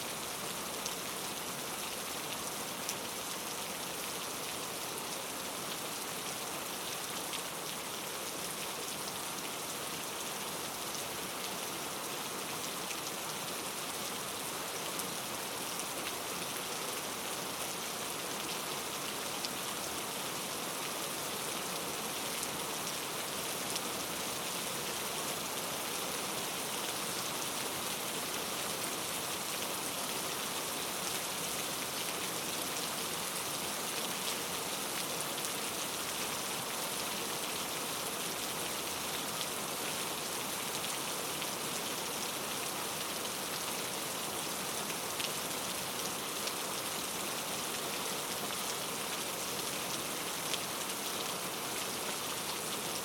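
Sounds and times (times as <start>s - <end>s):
rain pattering on a surface: 0.1s - 53.0s.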